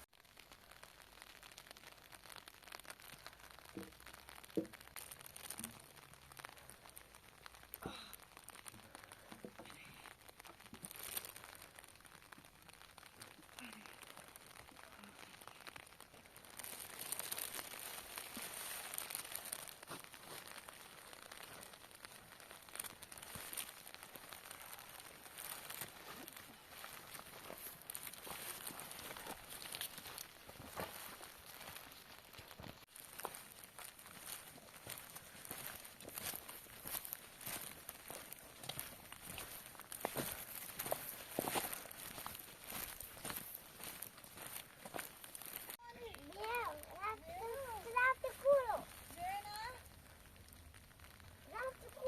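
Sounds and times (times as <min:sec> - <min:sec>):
rustling and crinkling: 0:00.0 - 0:52.0.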